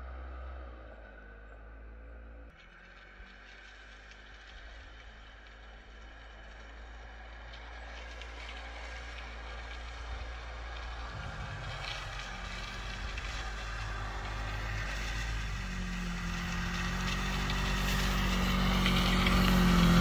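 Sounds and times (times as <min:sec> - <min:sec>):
snowmobile engine running: 0:03.9 - 0:20.0.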